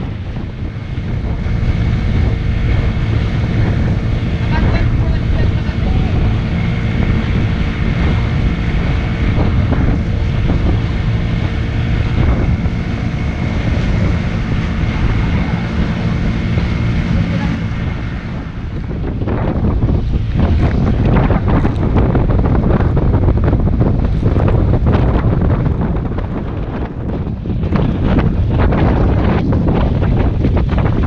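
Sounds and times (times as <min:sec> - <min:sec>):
boat engine running: 0:00.0 - 0:31.0
water rushing past hull: 0:00.0 - 0:31.0
wind buffeting microphone: 0:00.0 - 0:31.0.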